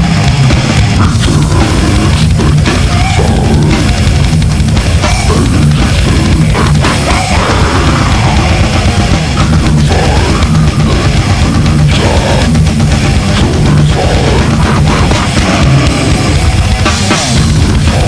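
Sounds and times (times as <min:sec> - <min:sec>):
bass guitar: 0:00.0 - 0:18.0
distorted electric guitars: 0:00.0 - 0:18.0
fast pounding drum kit: 0:00.0 - 0:18.0.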